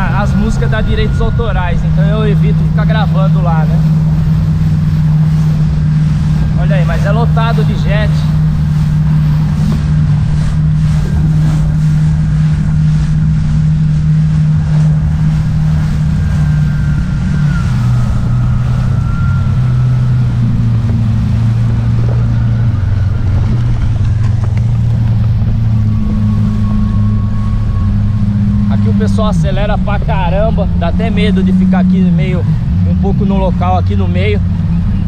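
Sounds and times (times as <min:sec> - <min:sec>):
jet ski engine running: 0:00.0 - 0:35.0
water rushing past hull: 0:00.0 - 0:35.0
wind on microphone: 0:00.0 - 0:35.0.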